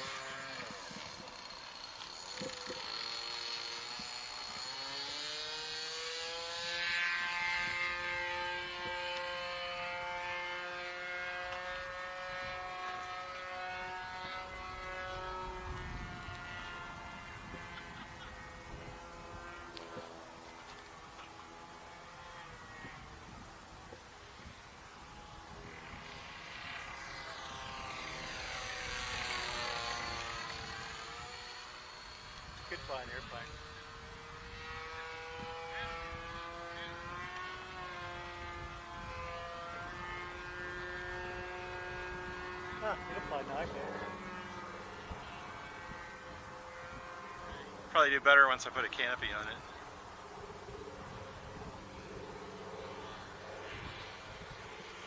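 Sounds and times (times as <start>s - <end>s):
model plane engine buzzing: 0.0s - 48.0s, 49.0s - 55.0s.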